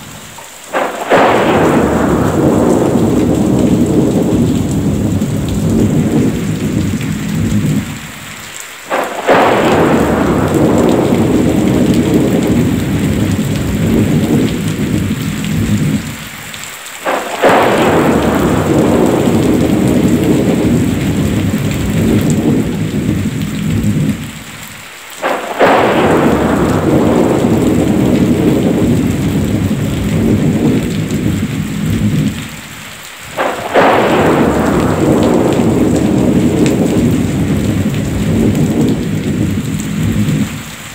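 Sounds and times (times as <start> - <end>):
heavy rain hiss: 0.0 - 40.9
thunder crack and rumble: 0.0 - 40.9.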